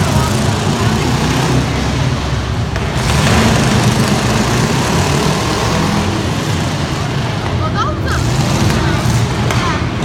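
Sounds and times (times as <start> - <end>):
loud truck engine running: 0.0 - 10.0.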